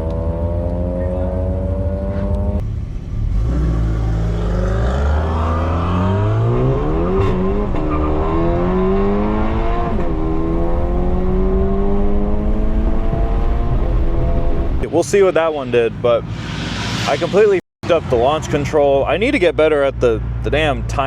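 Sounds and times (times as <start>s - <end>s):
car engine at full throttle: 0.0s - 21.0s.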